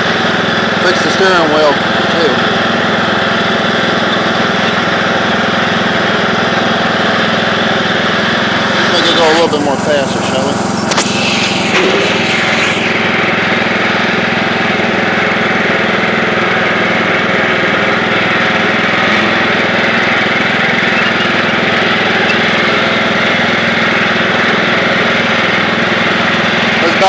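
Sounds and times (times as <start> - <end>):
lawn tractor engine running: 0.0 - 27.0.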